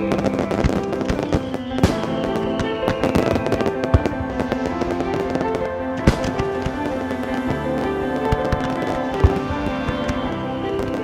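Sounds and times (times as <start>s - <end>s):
fireworks banging and crackling: 0.0s - 11.0s
music with sustained notes: 0.0s - 11.0s.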